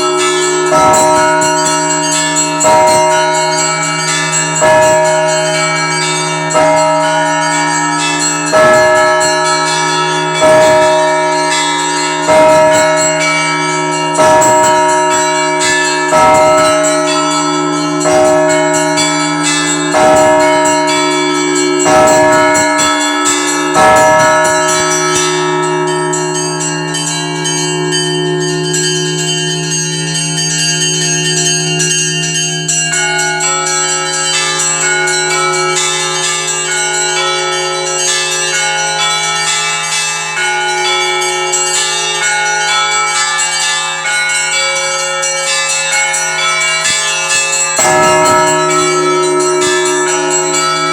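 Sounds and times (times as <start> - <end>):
heavy church bell strokes: 0.0 - 50.9
hum of sustained bell ringing: 0.0 - 50.9
small bells chiming: 0.0 - 50.9.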